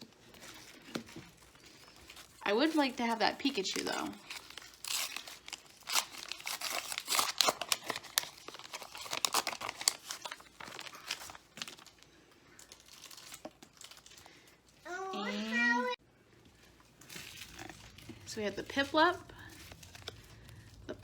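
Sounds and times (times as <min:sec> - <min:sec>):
wrapper crinkling and tearing: 0:00.0 - 0:14.8, 0:16.5 - 0:21.0.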